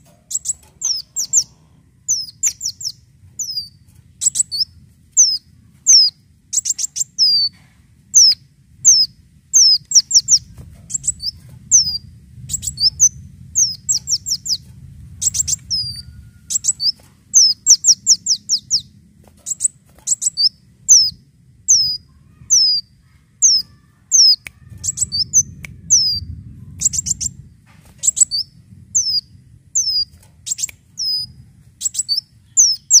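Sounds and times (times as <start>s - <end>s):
sunbird high chirps: 0.0s - 33.0s.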